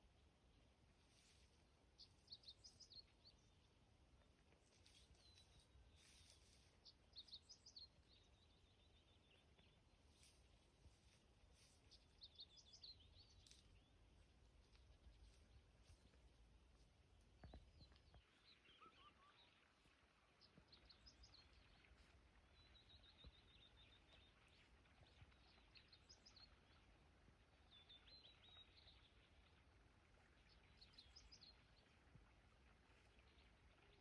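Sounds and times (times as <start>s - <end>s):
faint birdsong chirps and trills: 0.0s - 34.0s.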